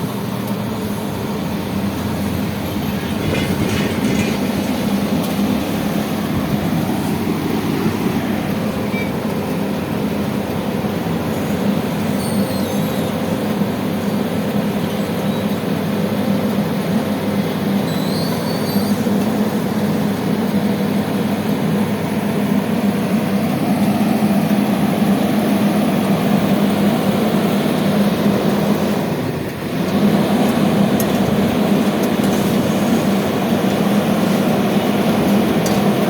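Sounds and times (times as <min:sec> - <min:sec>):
heavy machinery droning: 0:00.0 - 0:36.0.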